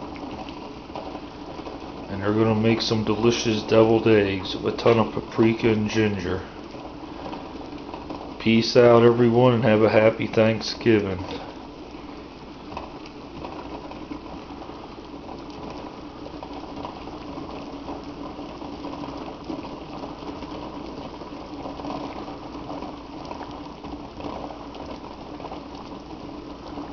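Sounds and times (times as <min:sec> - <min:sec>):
water boiling and bubbling: 0:00.0 - 0:26.9.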